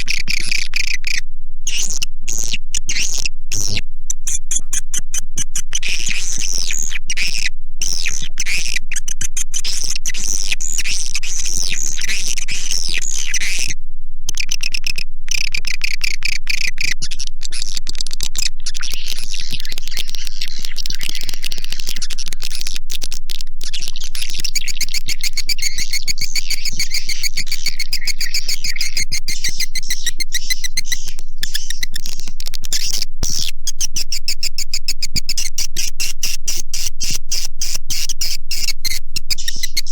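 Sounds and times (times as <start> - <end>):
swiftlets twittering and chirping: 0.0 - 10.4, 14.4 - 39.9
steady low hum: 0.0 - 39.9.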